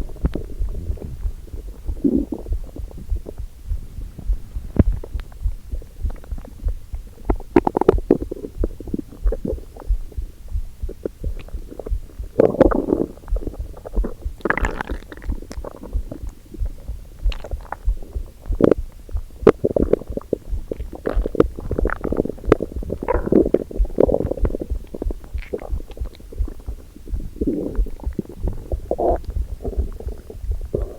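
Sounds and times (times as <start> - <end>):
stomach gurgling: 0.0 - 30.9.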